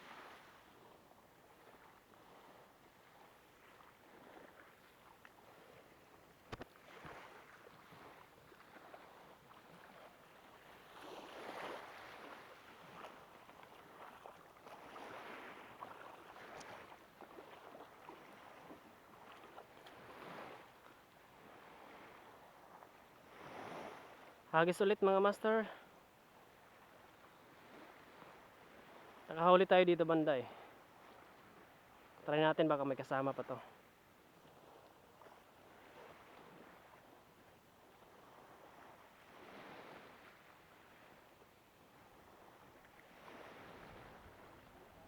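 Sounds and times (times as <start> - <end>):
small waves washing on shore: 0.0 - 45.0.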